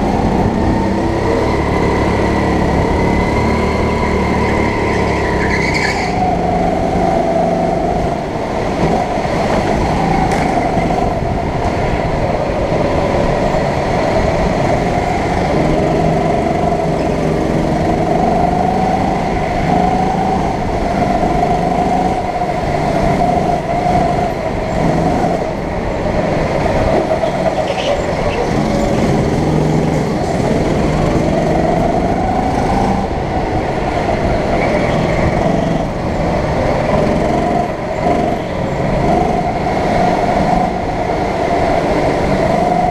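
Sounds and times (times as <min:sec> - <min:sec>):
go-kart motor revving: 0:00.0 - 0:08.1, 0:12.7 - 0:25.6, 0:26.7 - 0:42.9.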